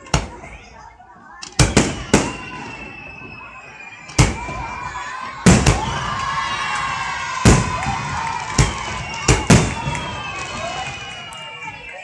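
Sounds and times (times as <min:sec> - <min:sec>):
fireworks bangs: 0:00.0 - 0:11.9
children cheering: 0:00.0 - 0:12.0.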